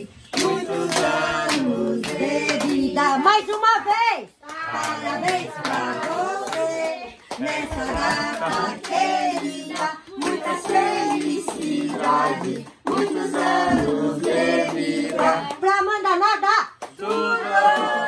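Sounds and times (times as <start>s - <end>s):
people clapping: 0.0s - 3.8s, 4.4s - 18.0s
group singing: 0.0s - 18.0s.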